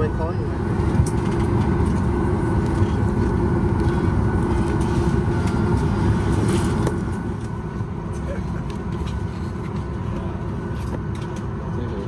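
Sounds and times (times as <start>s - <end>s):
jet engine hum: 0.0s - 11.7s
aircraft cabin rumble: 0.0s - 12.0s.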